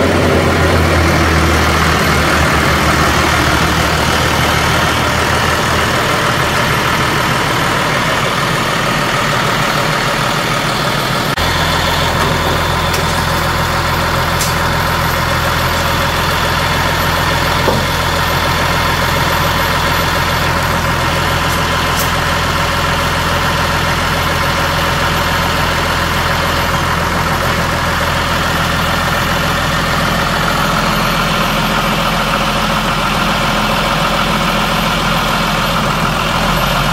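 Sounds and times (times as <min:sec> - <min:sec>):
tractor diesel engine idling: 0:00.0 - 0:36.9.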